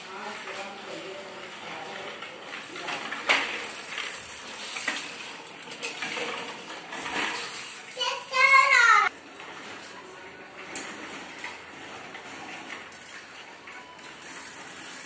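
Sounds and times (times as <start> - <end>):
bicycle rolling over tiled floor: 0.0 - 15.0.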